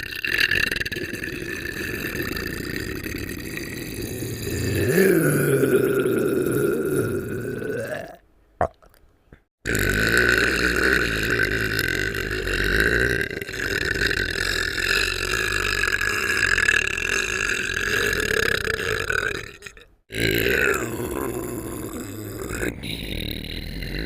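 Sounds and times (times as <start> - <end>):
cartoon voice long burp: 0.0 - 8.9, 9.6 - 24.0.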